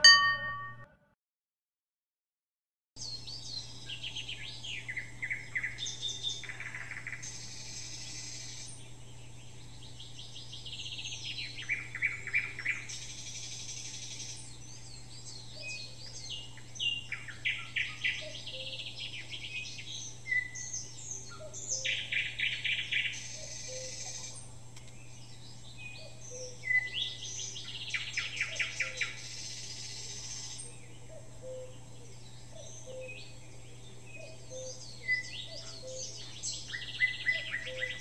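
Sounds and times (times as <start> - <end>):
faint low hum: 3.0 - 38.0
songbirds chirping and trilling: 3.0 - 38.0.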